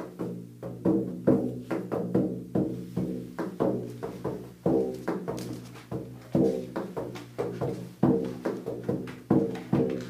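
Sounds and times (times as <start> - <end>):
bodhran beats: 0.0 - 10.0.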